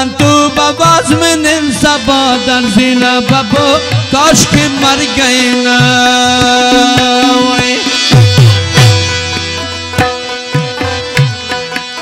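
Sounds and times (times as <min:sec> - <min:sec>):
harmonium notes: 0:00.0 - 0:12.0
tabla strokes: 0:00.0 - 0:12.0.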